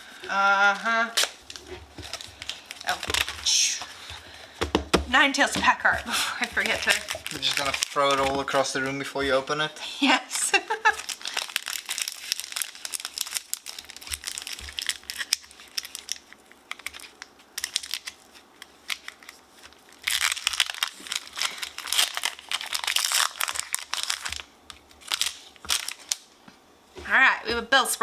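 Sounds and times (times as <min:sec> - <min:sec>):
foil wrapper crinkling and tearing: 0:00.0 - 0:04.6, 0:05.9 - 0:09.7, 0:10.3 - 0:26.4.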